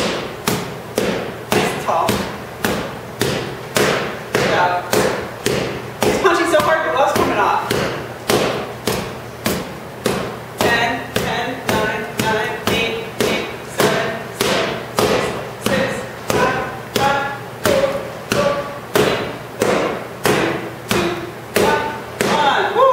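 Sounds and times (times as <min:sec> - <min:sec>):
gloves punching focus mitts: 0:00.0 - 0:22.6.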